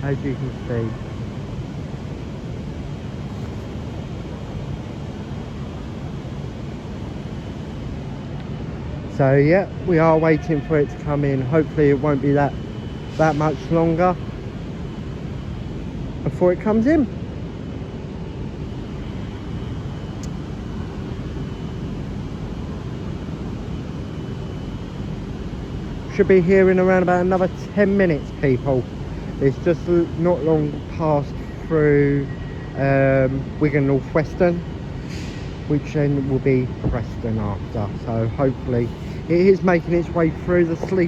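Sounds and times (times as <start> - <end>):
railway platform rumble and hiss: 0.0 - 41.0.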